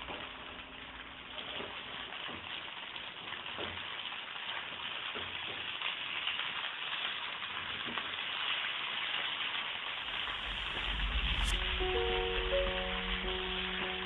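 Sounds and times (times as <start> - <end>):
patties sizzling in hot oil: 0.0 - 14.0.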